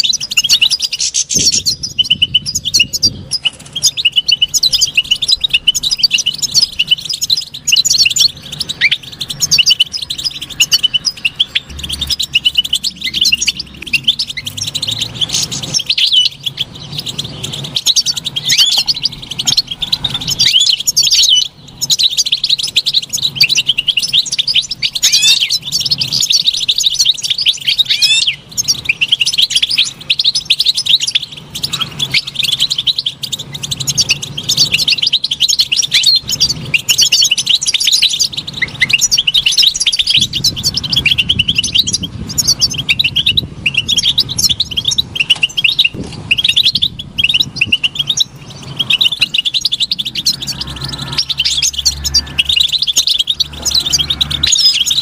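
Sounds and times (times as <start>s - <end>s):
goldfinch twittering: 0.0s - 55.0s.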